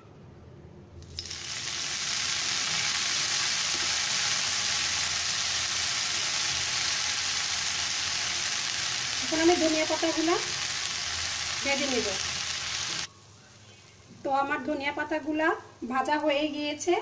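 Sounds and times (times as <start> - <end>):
leaves sizzling in hot oil: 1.1 - 16.9.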